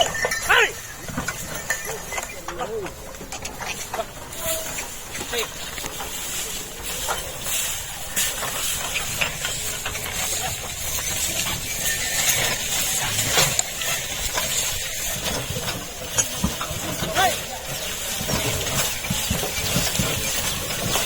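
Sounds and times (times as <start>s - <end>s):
cart rattling and knocking: 0.0s - 21.0s
steady hissing noise: 0.8s - 20.8s.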